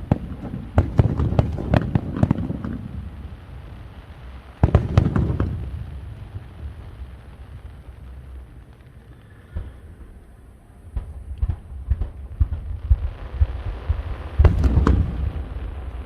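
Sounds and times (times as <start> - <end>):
fireworks bangs: 0.0 - 10.3, 10.9 - 16.0.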